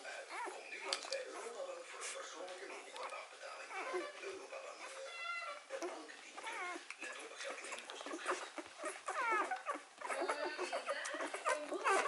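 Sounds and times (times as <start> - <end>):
puppies squeaking and whimpering: 0.0 - 12.0.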